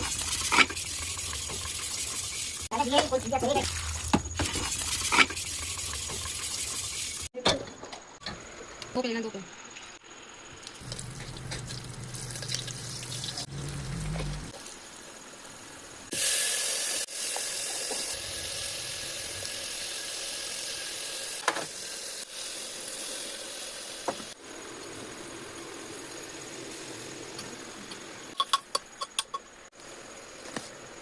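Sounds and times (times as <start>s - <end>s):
food sizzling in hot oil: 0.0s - 7.3s, 9.8s - 30.4s.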